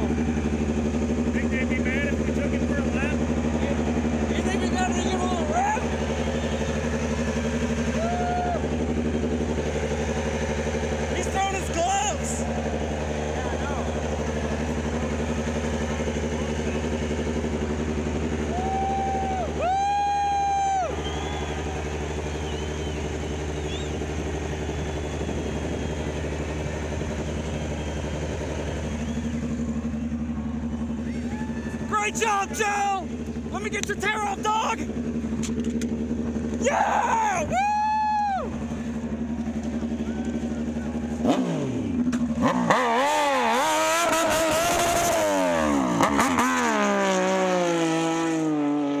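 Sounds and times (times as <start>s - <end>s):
motorcycle engine idling: 0.0s - 42.7s.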